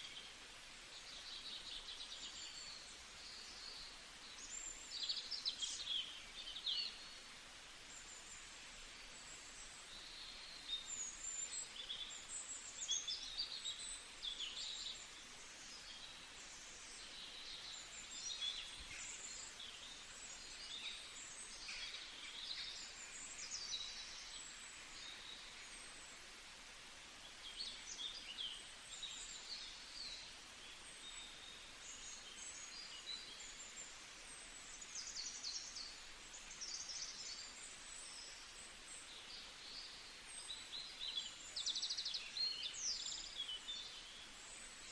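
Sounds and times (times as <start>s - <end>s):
songbirds chirping and trilling: 0.0s - 44.9s
steady background hiss: 0.0s - 44.9s.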